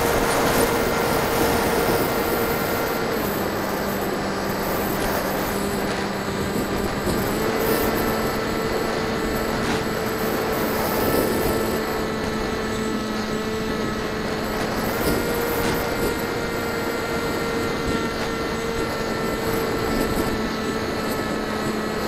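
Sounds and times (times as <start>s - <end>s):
electric motor and propeller whining: 0.0s - 22.0s
wind rushing past microphone: 0.0s - 22.0s.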